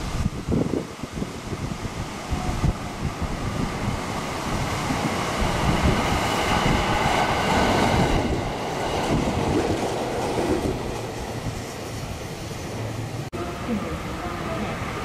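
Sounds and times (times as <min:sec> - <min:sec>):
wind buffeting microphone: 0:00.0 - 0:13.3
train wheels rushing on rails: 0:00.0 - 0:15.0.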